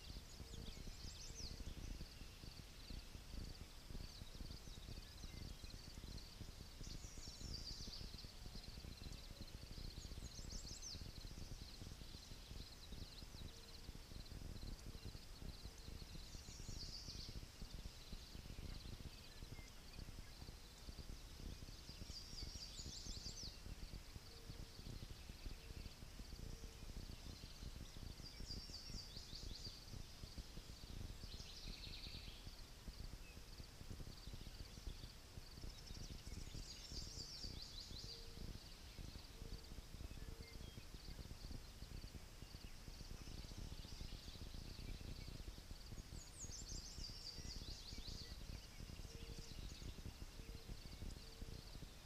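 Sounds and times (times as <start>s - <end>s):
low wind rumble: 0.0s - 52.0s
songbird singing: 0.0s - 52.0s.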